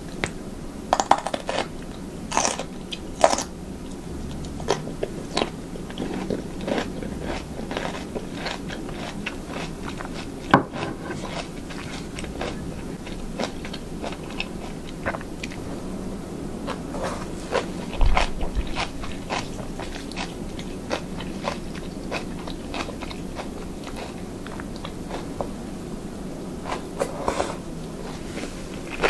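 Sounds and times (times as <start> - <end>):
person chewing food: 1.0 - 15.7, 16.6 - 25.6, 26.6 - 29.0.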